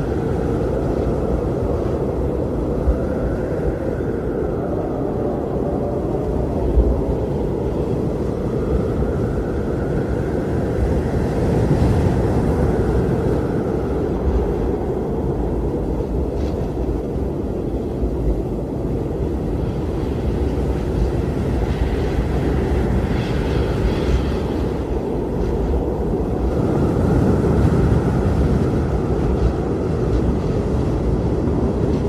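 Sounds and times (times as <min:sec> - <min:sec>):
faint wind howling: 0:00.0 - 0:32.0
strong blizzard wind blowing: 0:00.0 - 0:32.0.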